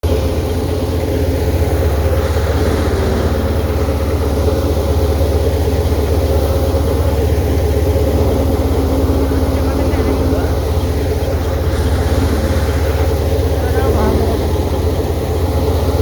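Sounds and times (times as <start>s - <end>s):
tractor diesel engine chugging: 0.0s - 16.0s.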